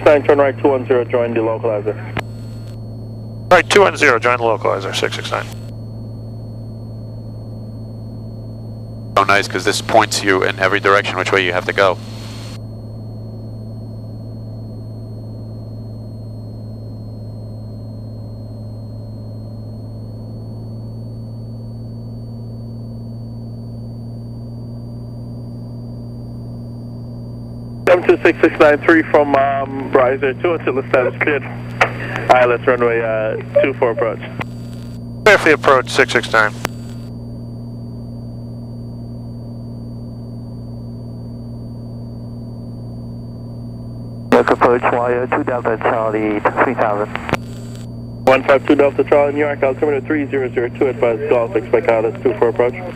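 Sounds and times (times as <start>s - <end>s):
faint high whine: 0.0s - 52.9s
propeller plane engine droning: 0.0s - 52.9s.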